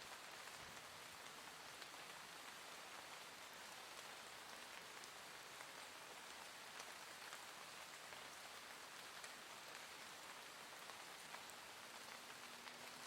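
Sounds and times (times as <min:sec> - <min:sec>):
gentle rain falling: 0:00.0 - 0:13.0.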